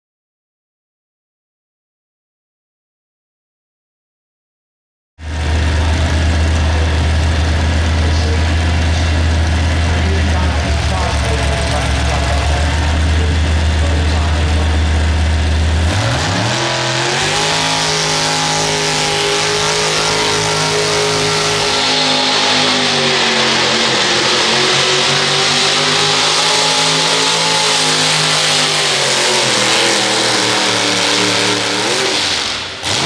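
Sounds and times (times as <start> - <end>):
tractor engine revving hard: 5.2 - 33.0.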